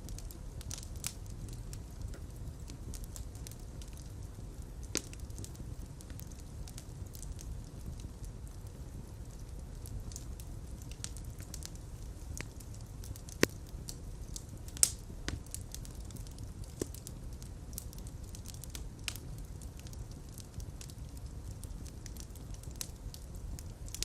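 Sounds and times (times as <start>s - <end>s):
fire crackles and pops: 0.0s - 24.0s
wood fire rumbling: 0.0s - 24.0s.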